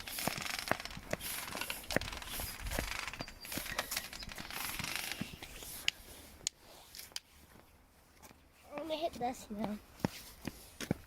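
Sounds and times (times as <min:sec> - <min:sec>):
rustling and scraping on dry ground: 0:00.0 - 0:11.0.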